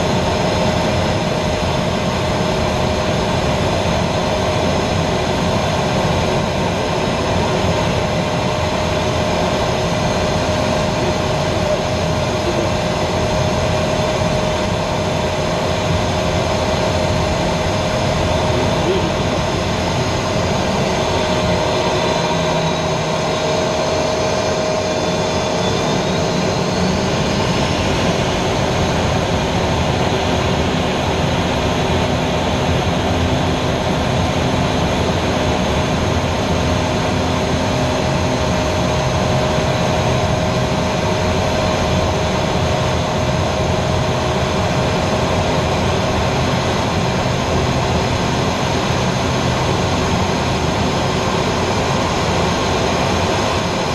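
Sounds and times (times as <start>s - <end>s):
jet engine and wind noise: 0.0s - 53.9s.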